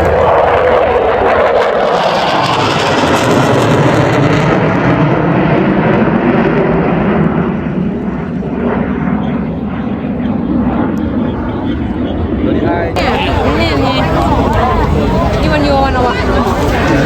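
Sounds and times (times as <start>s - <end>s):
fighter jet passing: 0.0s - 17.0s.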